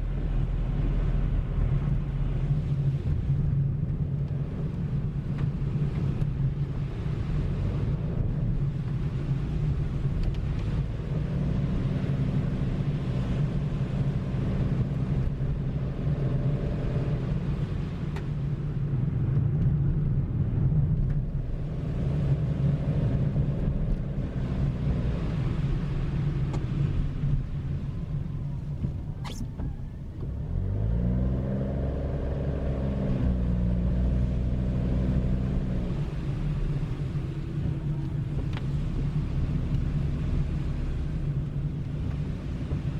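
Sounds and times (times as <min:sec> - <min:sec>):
car engine accelerating: 0:00.0 - 0:42.9
road rumble: 0:00.0 - 0:42.9.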